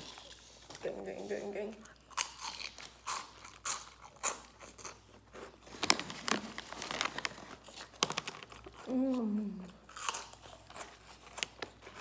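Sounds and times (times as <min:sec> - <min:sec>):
crunchy food chewing: 0:01.8 - 0:12.0.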